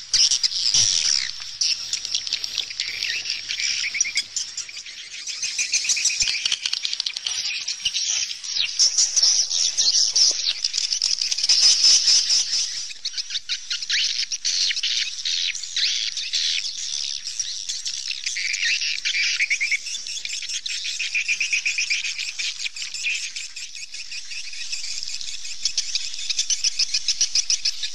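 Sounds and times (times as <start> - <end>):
swallows twittering: 0.0 - 27.9.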